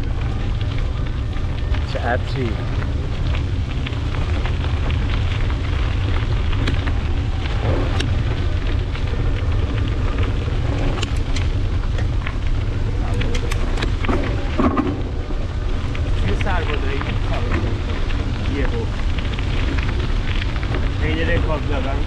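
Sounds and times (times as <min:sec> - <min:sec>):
bicycle clicks and rattles: 0:00.0 - 0:22.0
wind rumble on microphone: 0:00.0 - 0:22.0.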